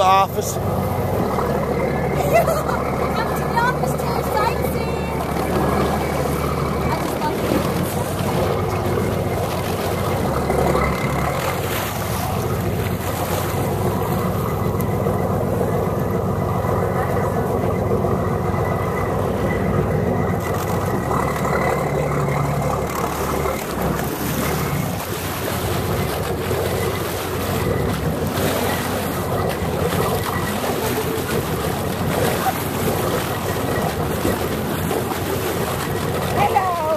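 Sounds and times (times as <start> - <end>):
boat engine running: 0.0 - 36.9
water noise: 0.0 - 36.9
wind: 0.0 - 36.9.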